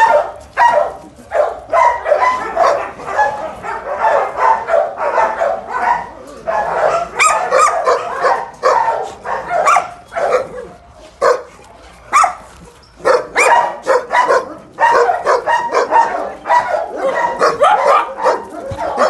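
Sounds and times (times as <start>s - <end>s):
dogs barking: 0.0s - 19.0s.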